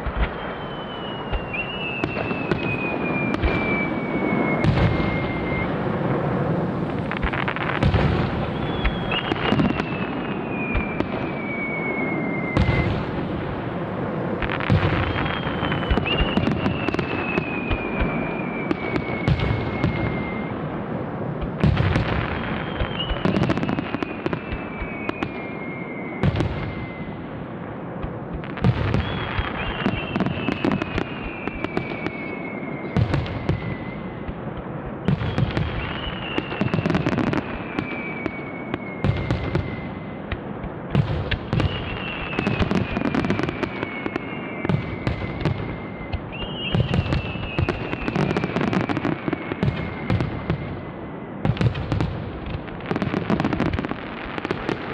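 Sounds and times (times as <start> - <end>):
fireworks bangs and crackling: 0.0 - 54.9
downward gliding whistle: 0.2 - 20.8, 21.5 - 27.2, 28.9 - 34.2, 35.1 - 40.1, 41.6 - 51.0.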